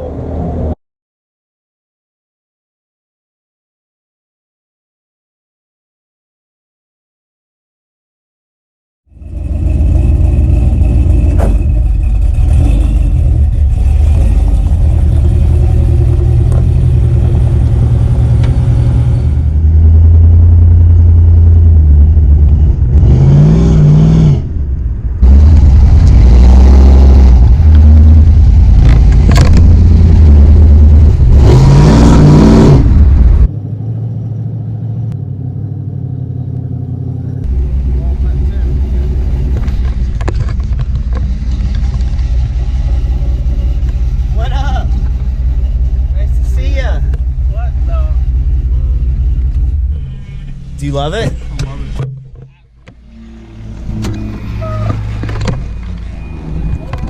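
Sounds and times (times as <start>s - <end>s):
engine rumbling and revving: 9.1s - 57.0s.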